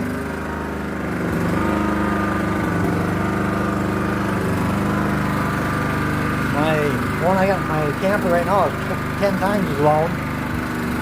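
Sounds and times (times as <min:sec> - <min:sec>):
generator running: 0:00.0 - 0:11.0.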